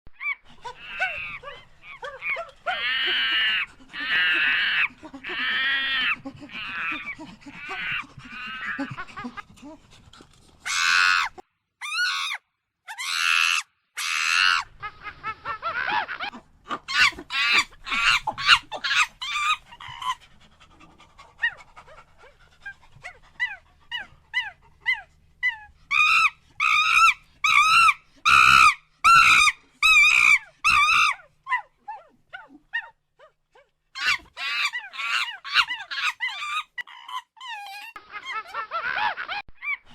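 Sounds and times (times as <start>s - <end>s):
monkey high-pitched cries: 0.1s - 9.4s, 10.7s - 20.2s, 22.6s - 33.3s, 34.0s - 39.9s.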